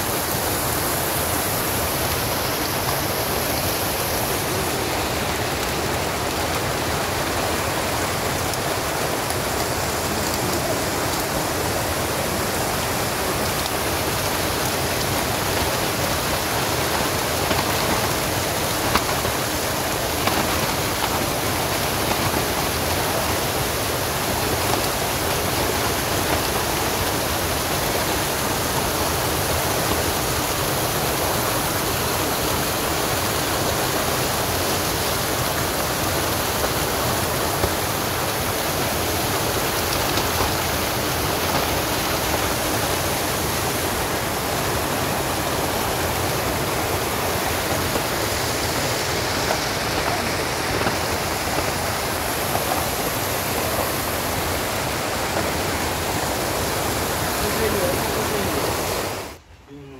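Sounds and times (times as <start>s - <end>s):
water rushing: 0.0s - 59.6s.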